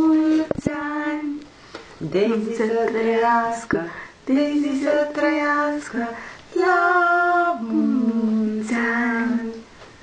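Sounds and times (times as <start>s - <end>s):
people singing birthday song: 0.0s - 10.0s.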